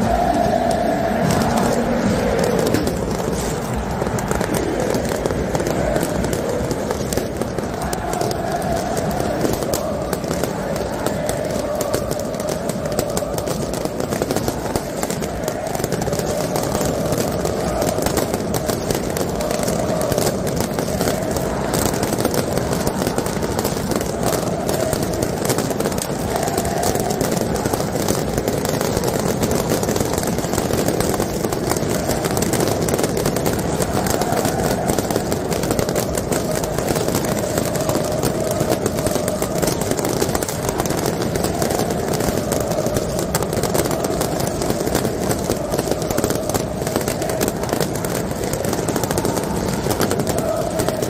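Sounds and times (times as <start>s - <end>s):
fireworks and firecrackers crackling: 0.0s - 51.0s
stadium crowd roaring and chanting: 0.0s - 51.0s.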